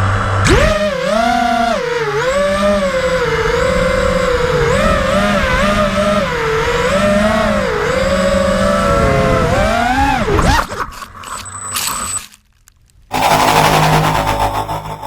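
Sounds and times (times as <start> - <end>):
drone motors whining: 0.0 - 12.5, 13.1 - 15.0.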